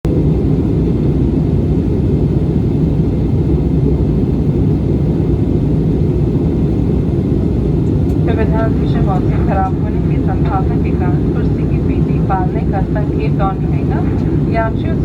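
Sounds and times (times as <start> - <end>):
airliner cabin engine drone: 0.1 - 15.0.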